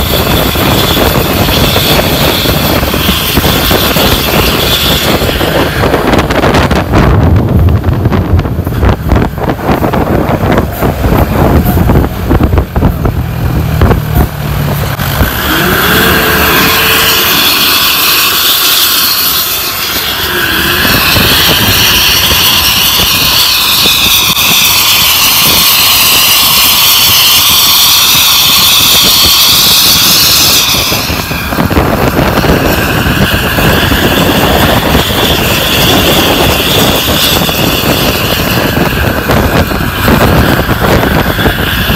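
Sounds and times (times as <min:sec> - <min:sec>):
bus exhaust jet-like whine: 0:00.0 - 0:41.9
wind buffeting microphone: 0:00.0 - 0:41.9.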